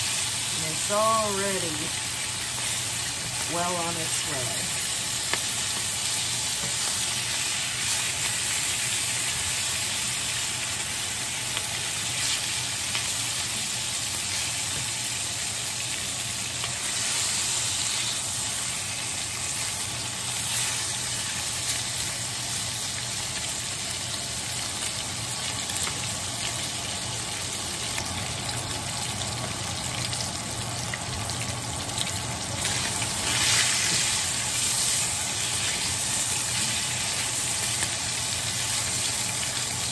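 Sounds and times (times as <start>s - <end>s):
bacon sizzling and popping: 0.0s - 39.9s.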